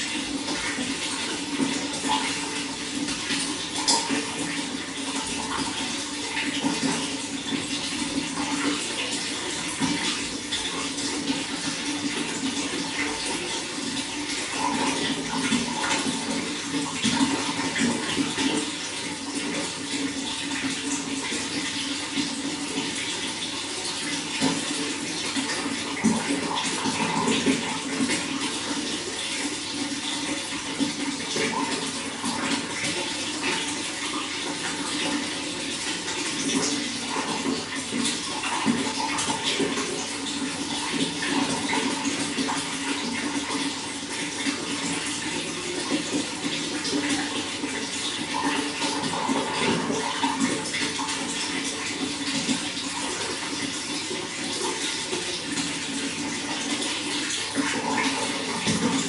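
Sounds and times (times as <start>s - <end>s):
running water with splashes: 0.0s - 59.0s.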